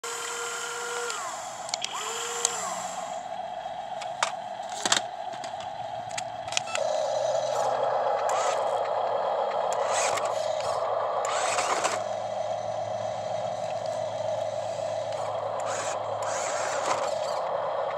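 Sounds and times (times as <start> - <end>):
small electric motors whining: 0.0 - 17.9
steady motor hum: 0.0 - 17.9.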